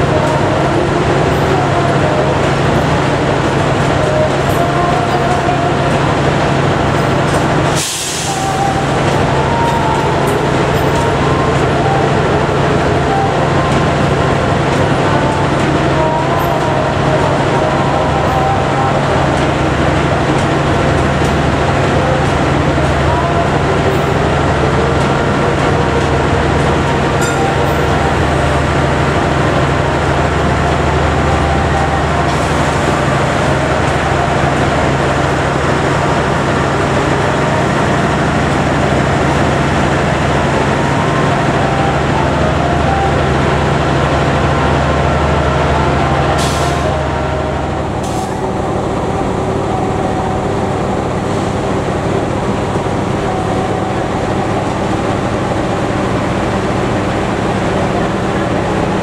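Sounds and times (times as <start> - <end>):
diesel locomotive engine hum: 0.0 - 59.0.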